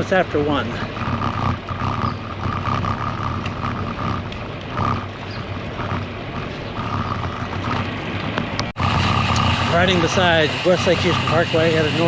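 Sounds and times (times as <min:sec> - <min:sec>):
brake squeal: 0:00.0 - 0:08.0, 0:08.7 - 0:12.0
road noise: 0:00.0 - 0:12.0.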